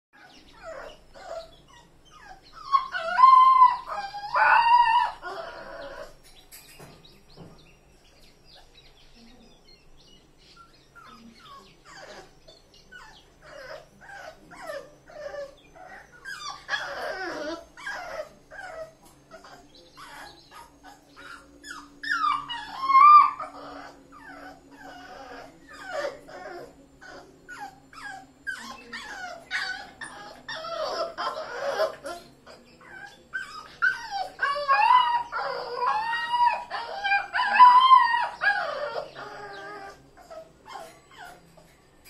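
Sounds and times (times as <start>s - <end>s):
puppy yelp: 0.2s - 6.2s, 12.9s - 41.6s
puppy whimpering: 0.2s - 6.9s, 10.6s - 41.8s.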